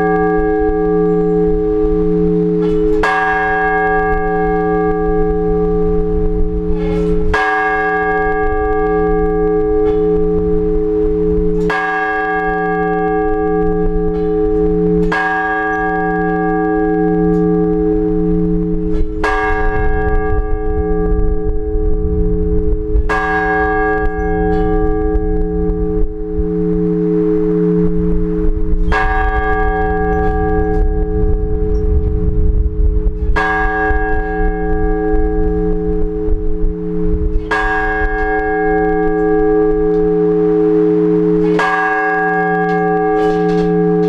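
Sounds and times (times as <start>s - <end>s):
large church bell tolling: 0.0s - 44.0s.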